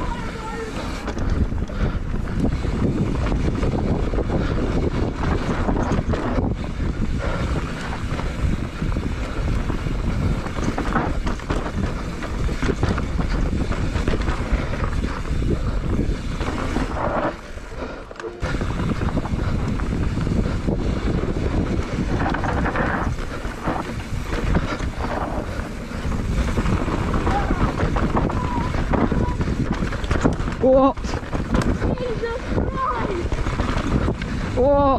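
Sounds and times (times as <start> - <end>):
mountain bike tyre noise on dirt: 0.0 - 34.9
wind buffeting microphone: 0.0 - 34.9.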